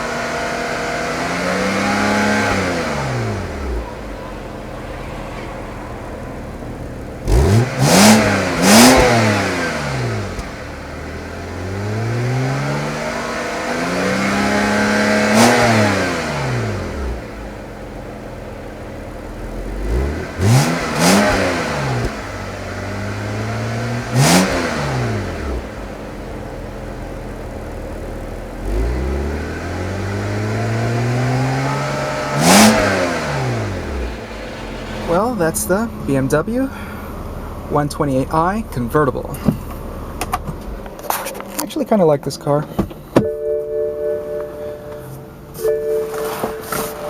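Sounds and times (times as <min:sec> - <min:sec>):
car engine revving: 0:00.0 - 0:43.2, 0:44.2 - 0:47.0.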